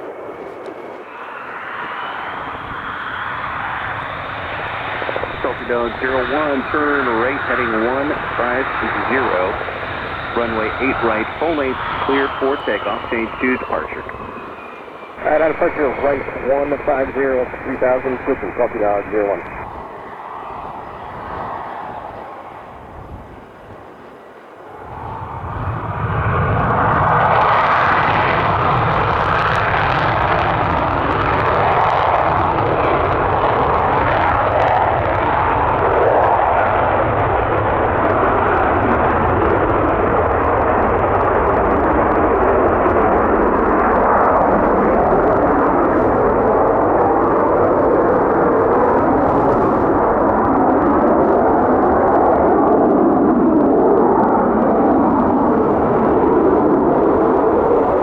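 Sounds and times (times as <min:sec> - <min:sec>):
aircraft engine roar: 0:00.0 - 0:58.0.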